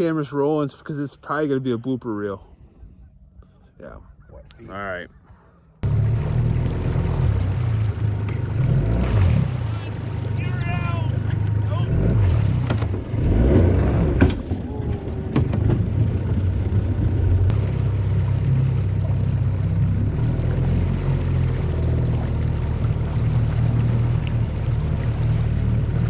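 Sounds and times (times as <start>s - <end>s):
water and wind noise: 0.0s - 26.0s
outboard engine drone: 5.1s - 26.0s.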